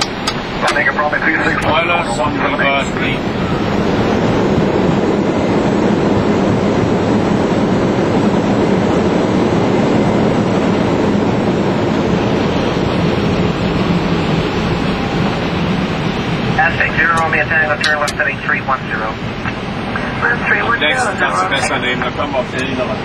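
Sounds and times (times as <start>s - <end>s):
jet engines in reverse thrust: 0.0s - 23.0s.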